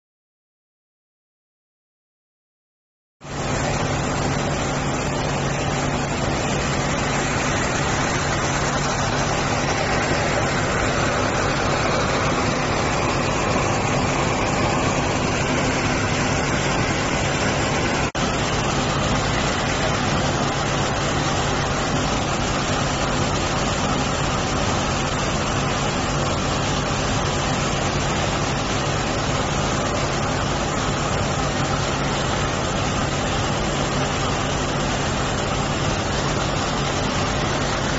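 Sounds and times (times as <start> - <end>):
diesel engine running: 3.2 - 37.9
rushing hiss of slurry: 3.3 - 37.9.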